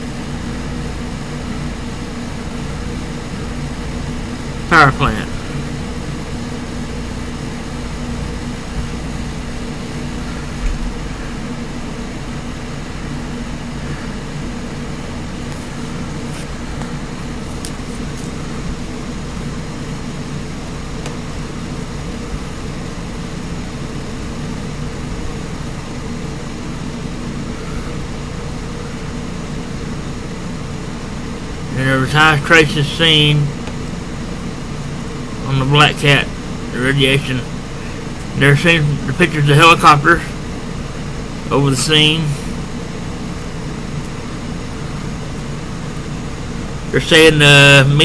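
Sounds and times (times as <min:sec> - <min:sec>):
steady mechanical drone: 0:00.0 - 0:48.0.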